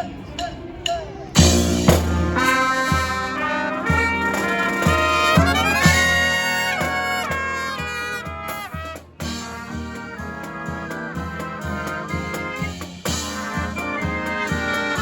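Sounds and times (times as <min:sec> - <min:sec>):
brass marching band playing: 0:01.4 - 0:15.0.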